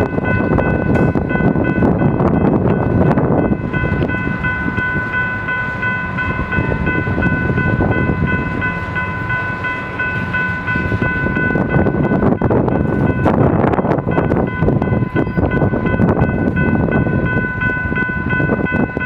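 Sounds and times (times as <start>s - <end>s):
freight train clattering past: 0.0s - 19.0s
ringing warning bell: 0.0s - 19.0s.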